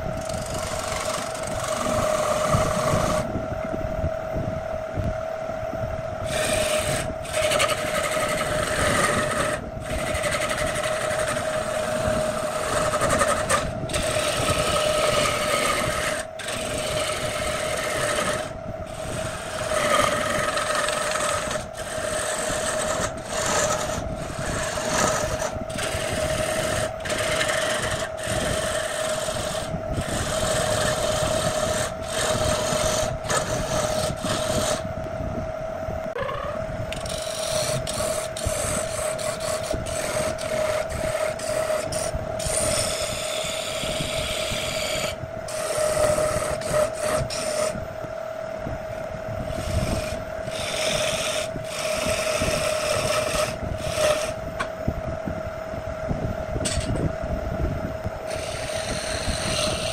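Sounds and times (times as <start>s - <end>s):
turning tool scraping wood: 0.0s - 3.3s, 6.2s - 34.9s, 36.1s - 47.8s, 49.4s - 54.7s, 58.2s - 59.9s
wood lathe humming: 0.0s - 3.4s, 6.2s - 34.9s, 36.0s - 48.1s, 48.9s - 54.7s, 58.0s - 59.9s.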